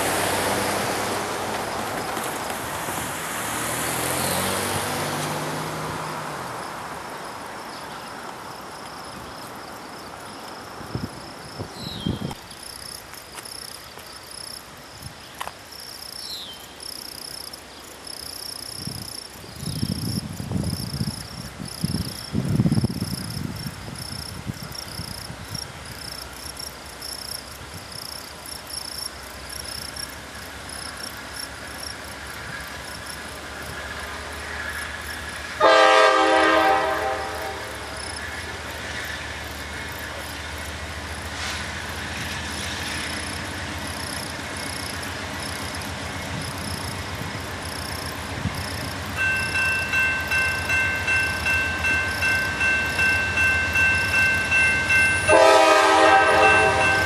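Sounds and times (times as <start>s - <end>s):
low rumbling wind gusts: 0.0s - 13.2s, 18.5s - 57.0s
insects chirping: 3.6s - 35.7s, 36.8s - 57.0s.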